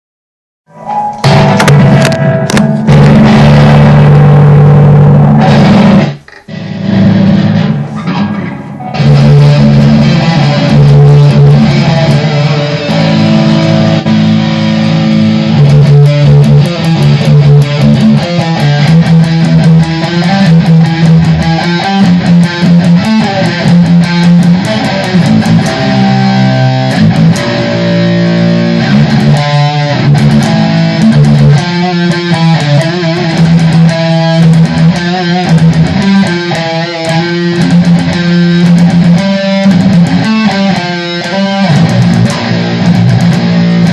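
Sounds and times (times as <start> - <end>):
electric guitar music: 0.7 - 43.9
bass: 1.2 - 43.9.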